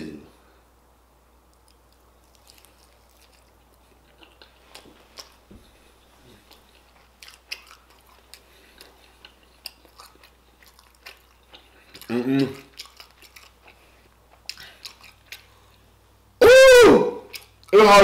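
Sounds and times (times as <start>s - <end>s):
crunchy chewing: 1.5s - 16.0s, 17.3s - 17.8s.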